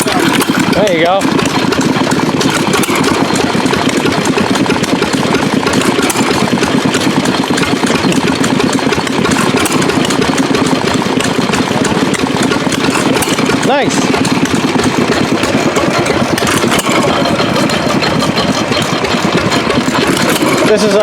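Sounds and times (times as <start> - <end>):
stationary gas engine running: 0.0 - 21.0.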